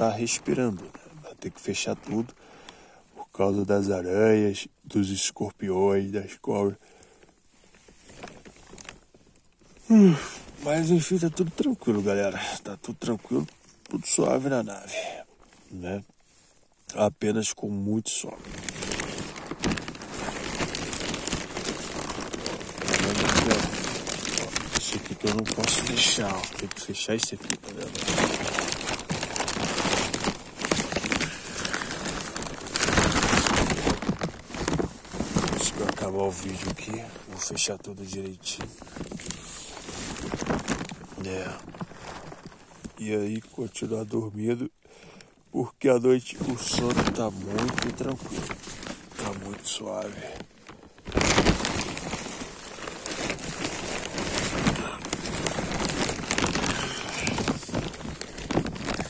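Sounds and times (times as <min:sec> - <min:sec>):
plastic sheet crinkling: 0:00.0 - 0:02.7, 0:03.3 - 0:59.0.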